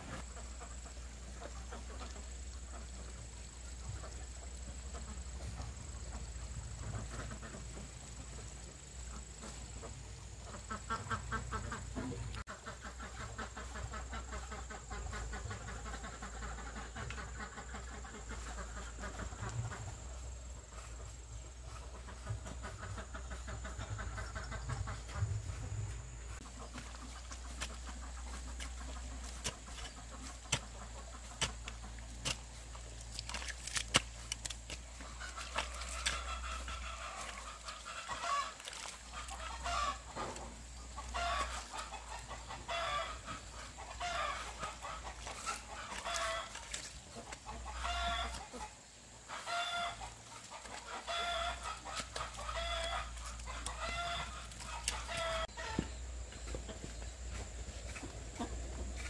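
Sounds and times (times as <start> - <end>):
chicken clucking: 9.1 - 59.0.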